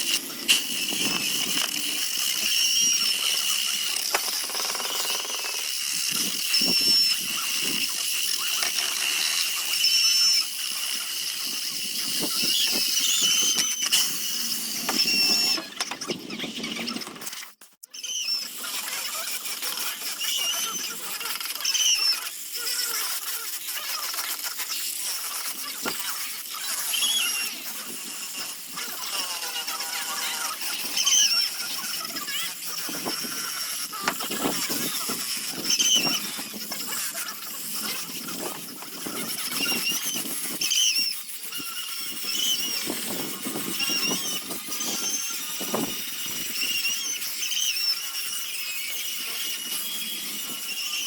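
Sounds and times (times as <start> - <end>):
wood being sanded: 0.0 - 15.7, 18.2 - 51.0
short high squeals: 0.0 - 17.0, 17.9 - 51.0.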